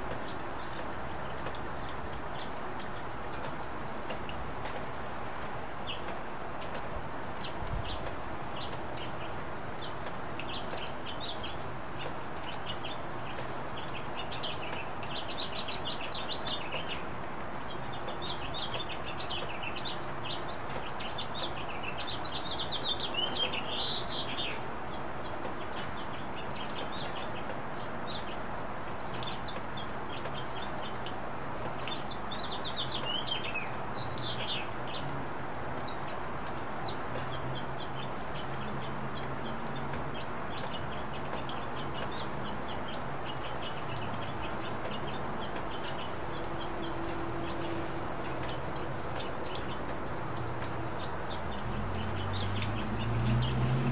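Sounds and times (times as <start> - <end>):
rain hiss: 0.0 - 53.9
small birds chirping: 0.0 - 53.9
water drips: 0.0 - 53.9.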